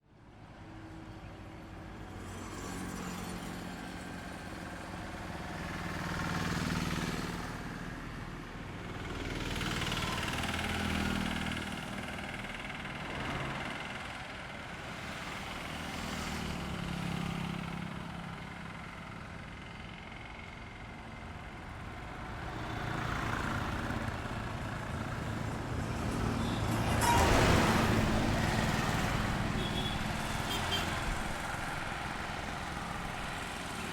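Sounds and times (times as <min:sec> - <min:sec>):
vehicles passing on highway: 0:00.0 - 0:33.9.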